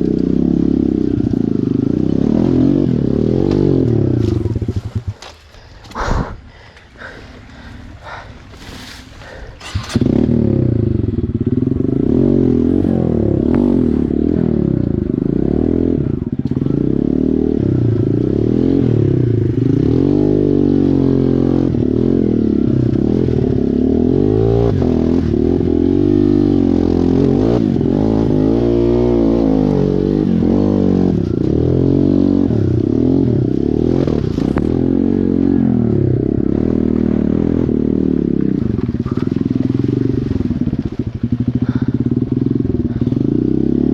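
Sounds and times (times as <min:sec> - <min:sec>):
dirt bike engine revving: 0:00.0 - 0:05.4, 0:07.6 - 0:43.9.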